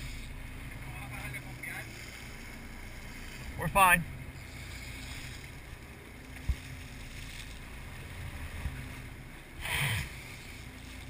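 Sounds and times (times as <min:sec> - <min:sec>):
boat engines running: 0:00.0 - 0:11.0
water rushing along hull: 0:00.0 - 0:11.0.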